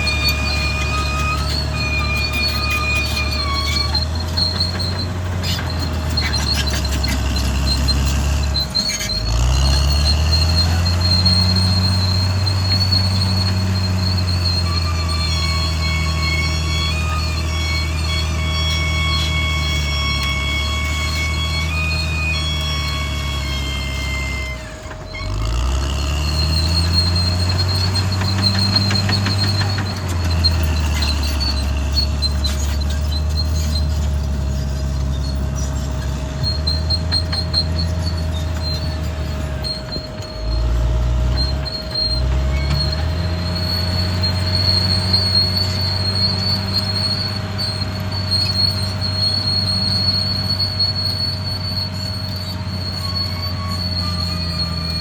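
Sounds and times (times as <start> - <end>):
bulldozer diesel engine under load: 0.0 - 55.0
high squeal of steel tracks: 0.0 - 55.0.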